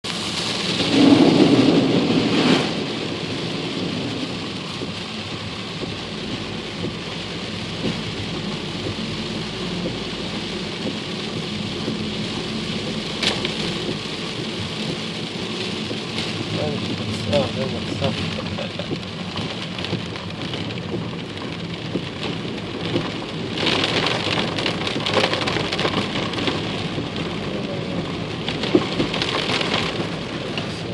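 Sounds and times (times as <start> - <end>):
water splashing against car: 0.1 - 30.9
car engine running: 2.8 - 30.9.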